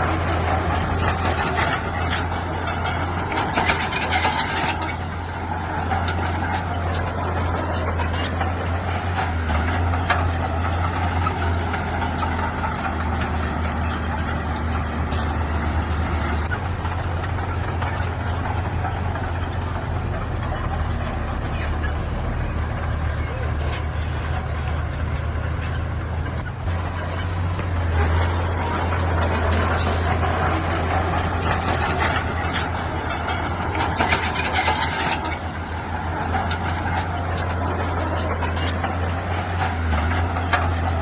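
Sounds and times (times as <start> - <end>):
clanks and knocks: 0.0 - 41.0
heavy diesel machinery drone: 0.0 - 41.0.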